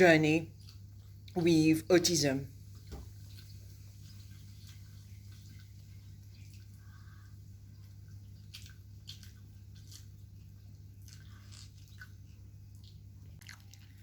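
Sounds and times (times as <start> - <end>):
steady low hum: 0.0 - 14.0
child chewing food: 0.4 - 1.5, 2.5 - 14.0.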